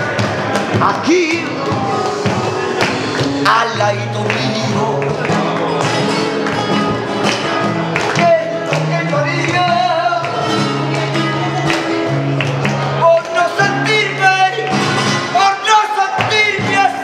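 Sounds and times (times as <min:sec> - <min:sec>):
rhythmic hand clapping: 0:00.0 - 0:17.0.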